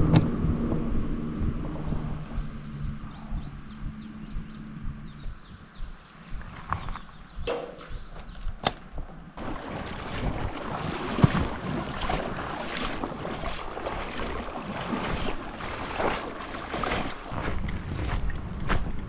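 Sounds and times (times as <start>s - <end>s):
water splashing and sloshing: 0.0s - 19.0s
footsteps wading through water: 1.4s - 19.0s.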